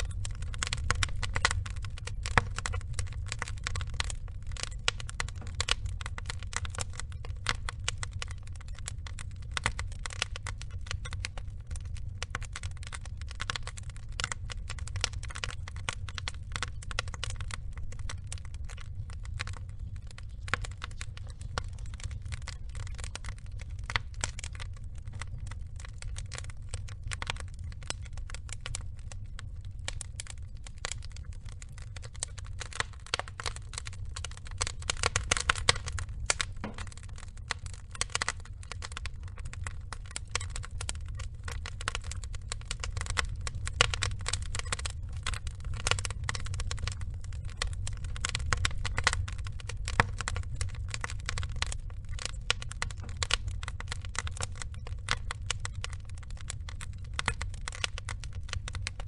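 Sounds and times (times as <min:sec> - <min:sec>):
logs crackling in fire: 0:00.0 - 0:59.0
low rumble of flames: 0:00.0 - 0:59.0.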